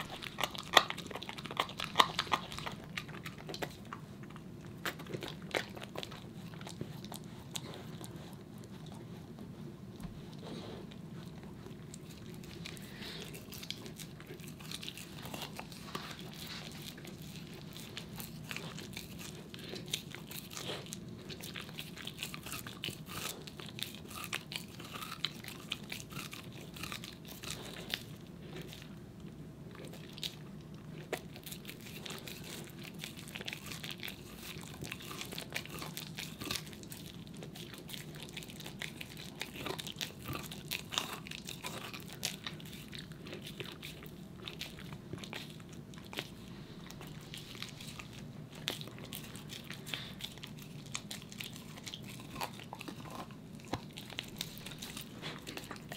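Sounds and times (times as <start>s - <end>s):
dog gnawing on bone: 0.0s - 55.9s
low steady hum: 0.0s - 55.9s.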